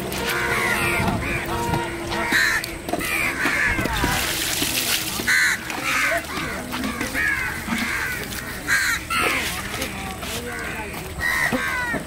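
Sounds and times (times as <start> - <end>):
busy background noise: 0.0 - 12.0
crows cawing: 0.3 - 4.1, 5.2 - 9.6, 10.4 - 12.0.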